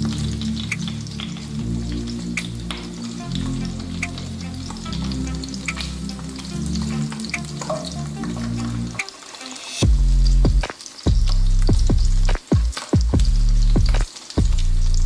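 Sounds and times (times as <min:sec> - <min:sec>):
background music: 0:00.0 - 0:15.0
food sizzling in a pan: 0:00.0 - 0:15.0.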